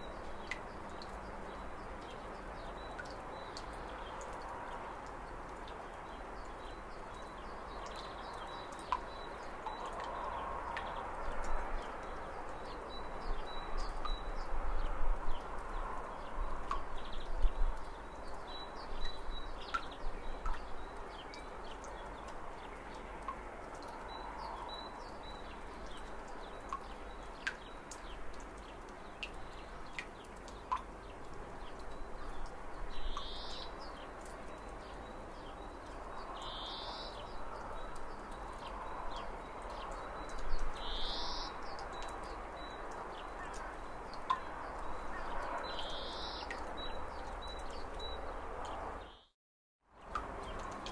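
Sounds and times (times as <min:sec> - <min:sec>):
outdoor background hiss: 0:00.0 - 0:49.3.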